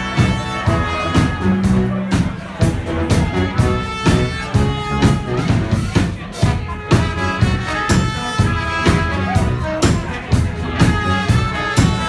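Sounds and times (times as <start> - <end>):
brass band playing: 0.0 - 12.0
drum kit beat: 0.0 - 12.0.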